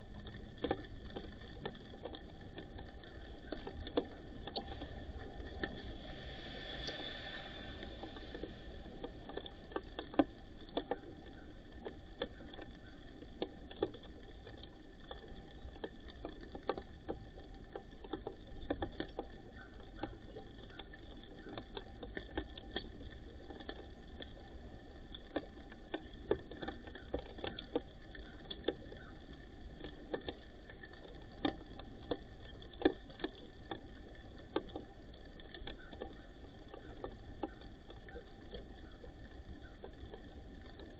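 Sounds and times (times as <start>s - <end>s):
birds pecking taps and clicks: 0.2s - 5.8s, 7.8s - 40.9s.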